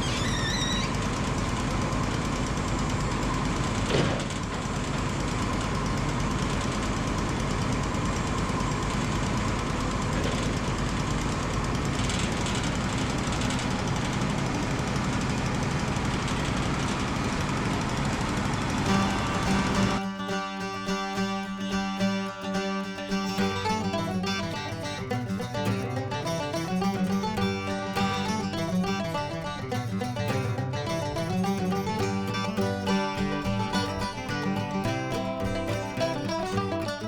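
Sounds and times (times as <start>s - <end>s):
band sawmill running: 0.9s - 37.0s.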